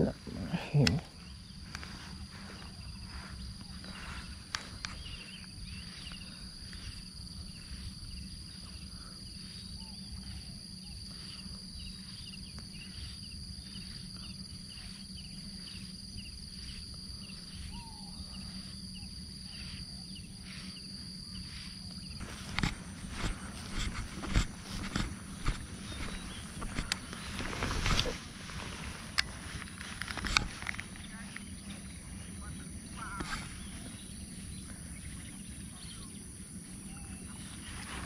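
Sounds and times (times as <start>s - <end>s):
insects whining: 0.0s - 38.0s
steady low hum: 0.0s - 38.0s.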